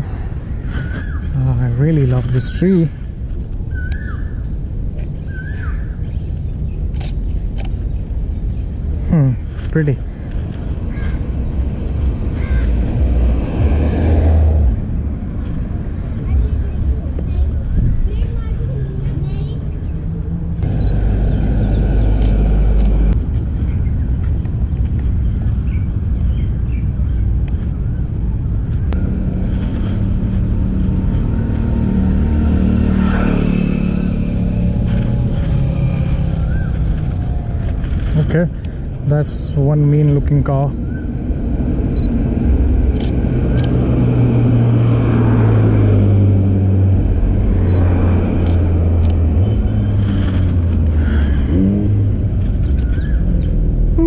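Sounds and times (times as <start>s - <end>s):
steady low rumble: 0.0s - 54.0s
vehicle passing: 9.5s - 54.0s.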